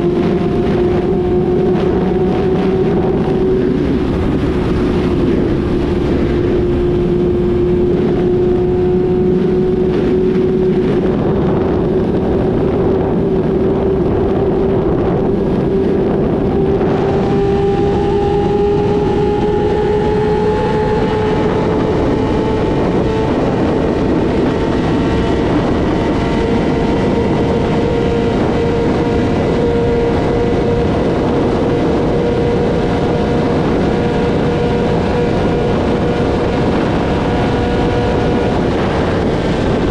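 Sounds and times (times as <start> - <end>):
motorcycle engine at high revs: 0.0 - 39.9
wind noise: 0.0 - 39.9.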